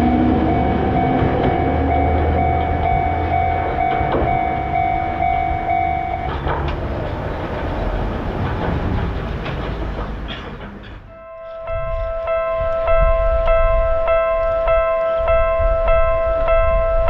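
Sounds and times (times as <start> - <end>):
level-crossing warning bell: 0.0 - 8.4, 11.1 - 17.0
passing train rumble and clatter: 0.0 - 17.0.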